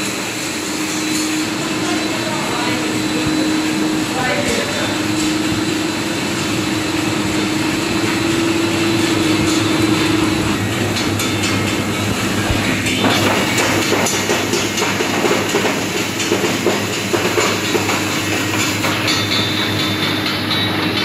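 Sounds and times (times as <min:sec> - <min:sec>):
machine whirring: 0:00.0 - 0:21.0
steady hum: 0:00.0 - 0:21.0
fast machine clatter: 0:00.9 - 0:21.0.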